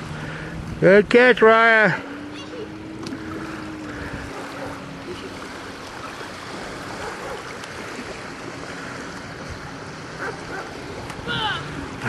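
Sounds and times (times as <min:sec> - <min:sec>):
lake water lapping: 0:00.0 - 0:12.0
wind: 0:00.0 - 0:12.0.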